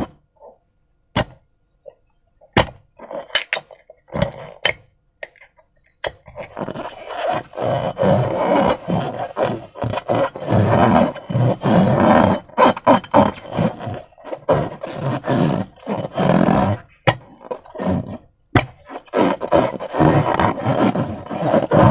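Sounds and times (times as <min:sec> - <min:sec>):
slime squelching: 0:01.2 - 0:21.9.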